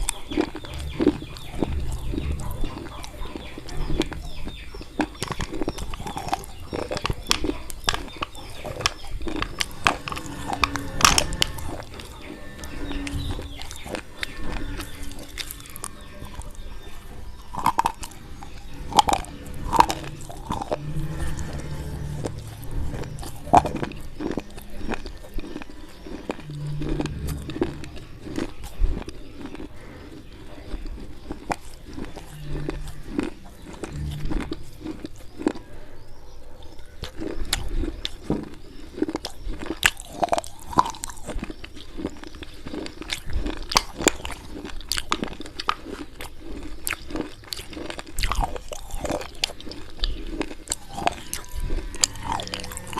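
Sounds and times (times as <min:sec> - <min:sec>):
crunching chalk pencils: 0:00.0 - 0:52.9.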